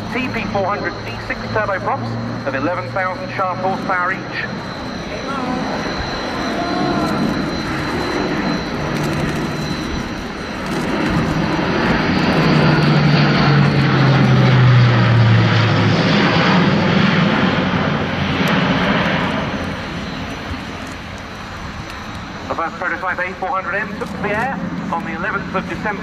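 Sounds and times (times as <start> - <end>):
propeller aircraft droning overhead: 0.0 - 26.0.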